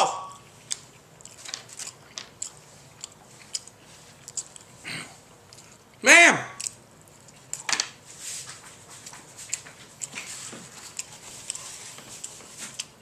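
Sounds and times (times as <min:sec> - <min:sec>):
mouth chewing food: 0:00.3 - 0:06.0, 0:06.6 - 0:07.7, 0:08.8 - 0:13.0.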